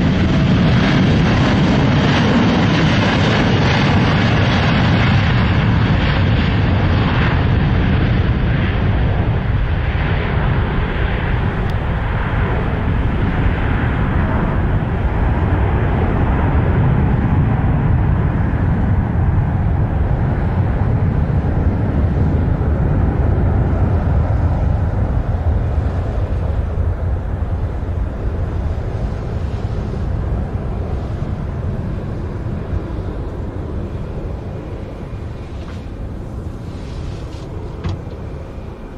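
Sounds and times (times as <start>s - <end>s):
jet engine rumble with hiss: 0.0s - 38.9s.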